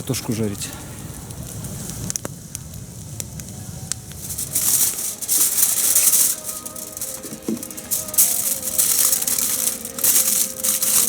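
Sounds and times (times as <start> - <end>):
fire hissing: 0.0 - 11.0
log fire crackling and popping: 0.0 - 11.0.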